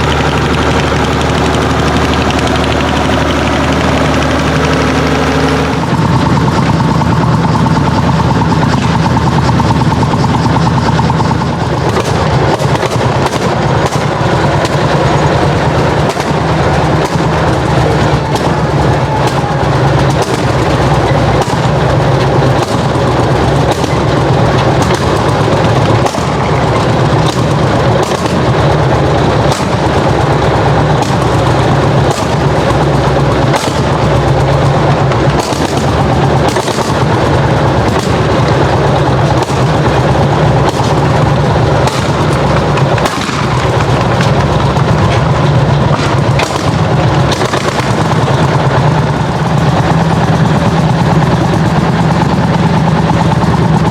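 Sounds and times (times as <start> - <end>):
tractor engine popping exhaust: 0.0 - 53.9.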